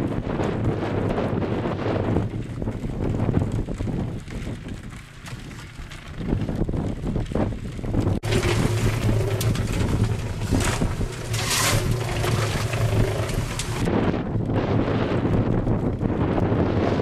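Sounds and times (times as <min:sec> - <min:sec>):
low motor hum: 0:00.0 - 0:17.0
wind buffeting microphone: 0:00.0 - 0:17.0.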